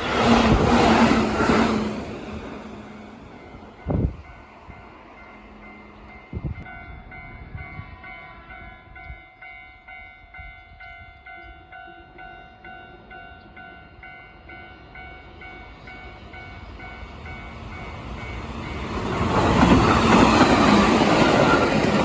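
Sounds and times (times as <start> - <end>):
low rail rumble: 0.0 - 22.0.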